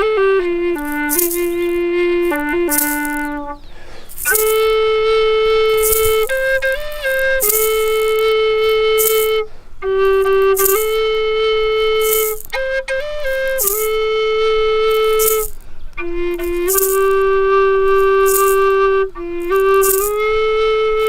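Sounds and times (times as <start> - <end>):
flute playing slow melody: 0.0 - 21.0.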